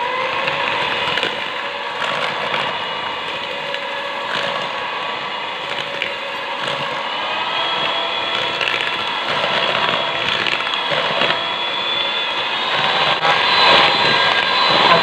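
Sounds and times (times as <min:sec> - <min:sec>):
electric hand mixer whining: 0:00.0 - 0:15.0.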